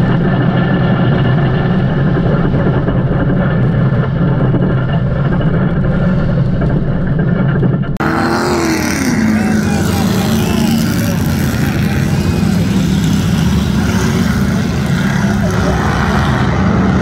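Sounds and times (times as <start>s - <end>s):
loud race engine running: 0.0s - 17.0s.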